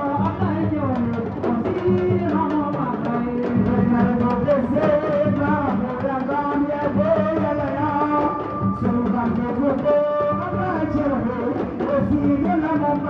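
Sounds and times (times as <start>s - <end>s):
hand drum percussion: 0.0s - 13.0s
person singing: 0.0s - 13.0s.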